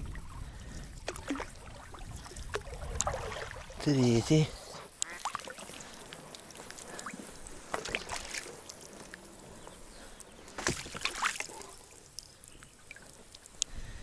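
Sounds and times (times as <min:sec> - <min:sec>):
water splashing and sloshing: 0:00.0 - 0:13.8.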